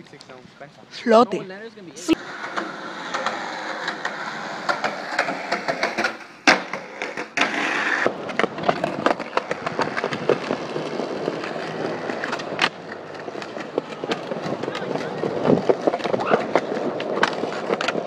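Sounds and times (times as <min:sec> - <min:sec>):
skateboard wheels rolling on concrete: 0:00.0 - 0:18.0
skateboard clicks and knocks: 0:02.2 - 0:18.0.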